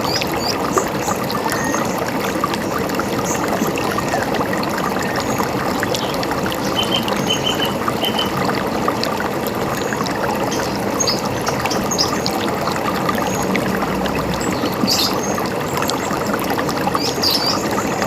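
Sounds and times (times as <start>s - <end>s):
river water gurgling: 0.0s - 18.0s.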